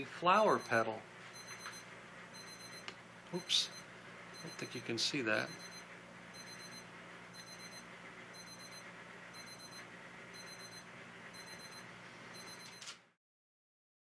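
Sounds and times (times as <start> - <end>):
steady low hum: 0.0 - 12.9
electronic alarm beeping: 0.5 - 4.8, 5.4 - 12.9.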